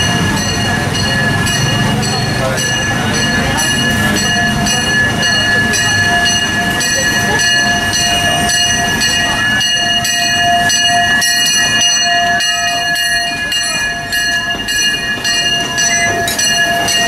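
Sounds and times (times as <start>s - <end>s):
train wheels rumbling over rails: 0.0s - 17.0s.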